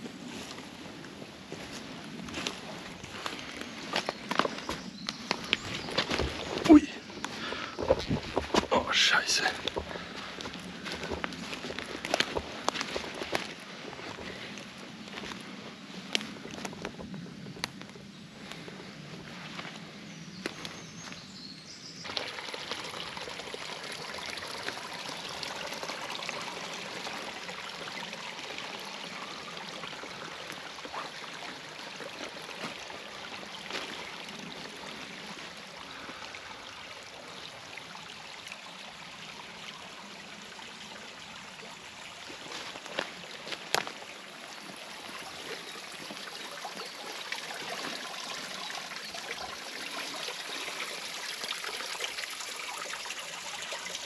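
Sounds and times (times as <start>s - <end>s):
brook water trickling: 0.0s - 54.0s.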